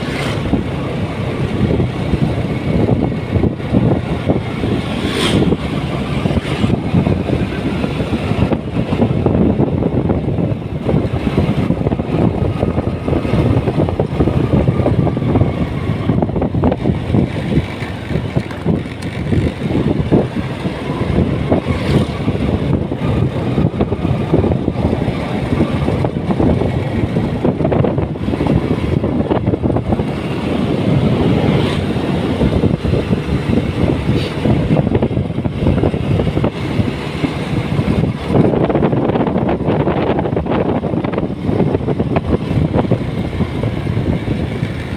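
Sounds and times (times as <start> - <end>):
motorcycle running: 0.0 - 44.9
wind buffeting microphone: 0.0 - 44.9.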